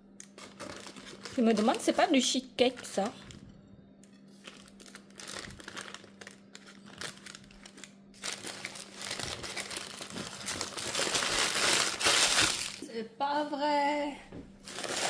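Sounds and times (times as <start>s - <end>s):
packaging crinkling: 0.2s - 3.5s, 4.3s - 12.8s, 14.6s - 15.0s.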